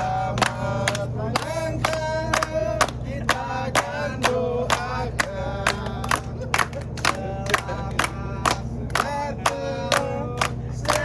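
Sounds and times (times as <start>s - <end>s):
chanting vocal: 0.0s - 11.0s
low steady hum: 0.0s - 11.0s.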